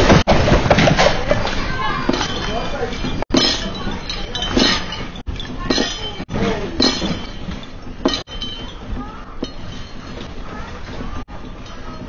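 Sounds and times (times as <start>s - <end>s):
continuous rumble: 0.0s - 12.0s
loud clatters: 0.0s - 12.0s
objects and glassware rattling: 0.0s - 12.0s.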